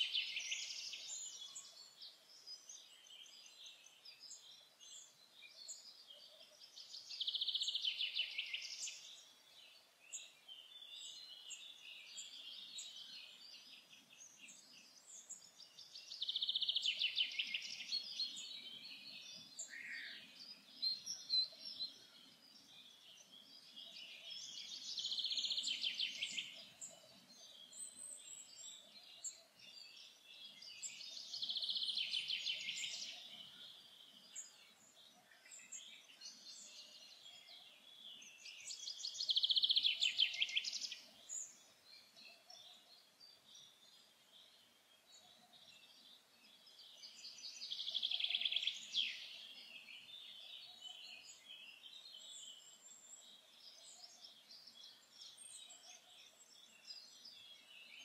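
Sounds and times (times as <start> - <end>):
birds chirping faintly: 0.0 - 58.0
songbird singing rapid notes: 0.0 - 58.0.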